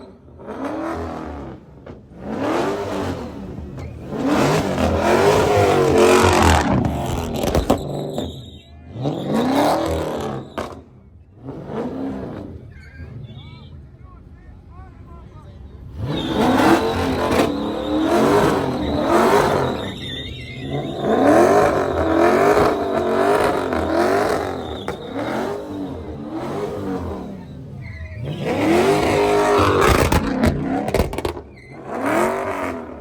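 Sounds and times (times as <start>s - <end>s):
car engine revving: 0.0s - 13.4s, 15.8s - 33.0s
tyres screeching: 2.7s - 10.8s, 11.6s - 13.5s, 16.0s - 33.0s.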